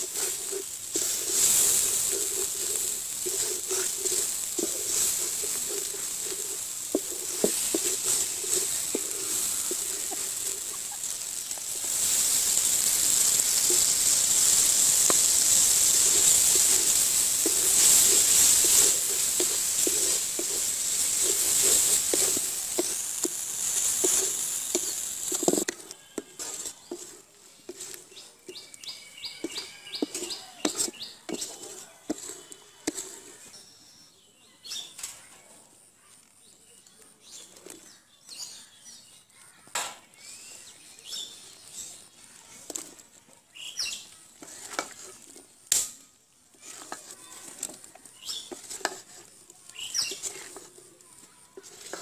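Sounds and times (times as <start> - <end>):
wooden spatula scraping metal pot: 0.0 - 33.6, 41.6 - 43.1, 44.0 - 45.9, 46.5 - 52.0
birds chirping: 0.0 - 35.0, 36.3 - 42.8, 46.6 - 52.0.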